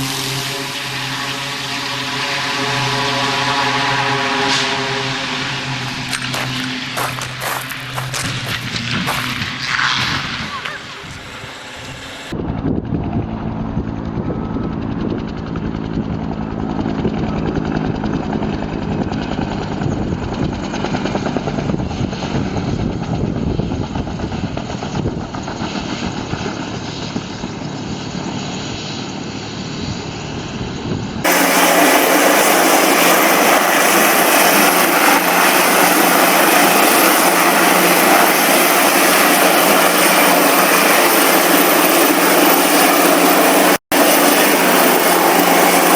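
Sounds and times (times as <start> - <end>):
aircraft engine and propeller: 0.0 - 45.9.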